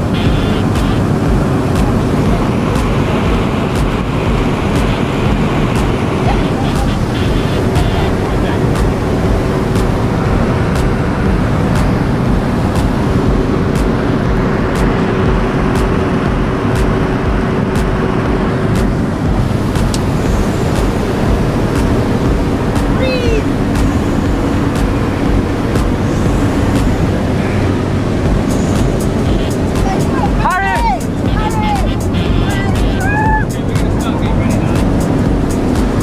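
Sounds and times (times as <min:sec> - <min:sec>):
aircraft engine and propeller drone: 0:00.0 - 0:36.0.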